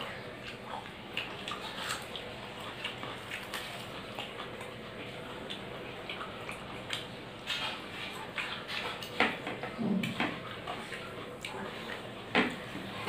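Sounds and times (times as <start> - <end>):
woman chewing food: 0.0 - 13.0.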